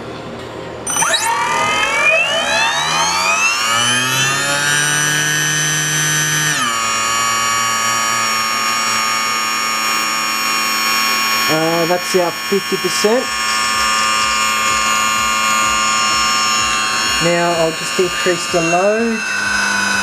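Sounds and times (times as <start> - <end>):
electric motor whining: 0.8 - 20.0.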